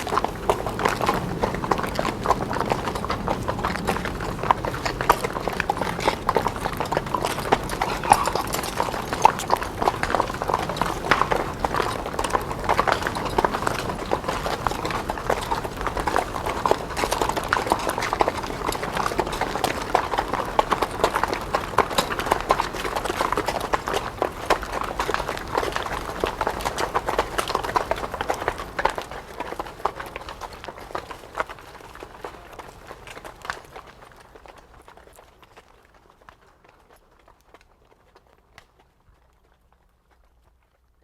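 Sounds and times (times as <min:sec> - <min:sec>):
horse hooves on cobblestones: 0:00.0 - 0:41.0.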